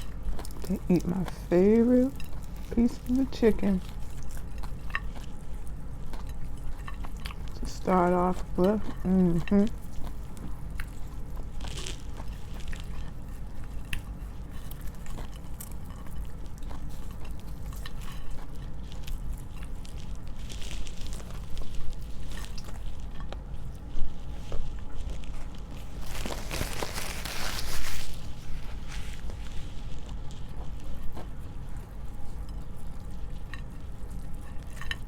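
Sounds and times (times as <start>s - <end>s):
chewing crispy fried chicken: 0.0s - 35.0s.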